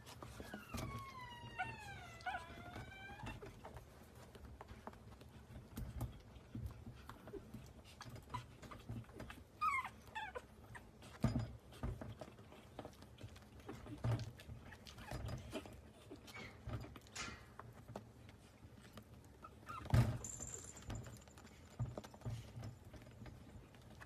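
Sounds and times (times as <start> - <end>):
puppy gnawing at paws: 0.0 - 24.0.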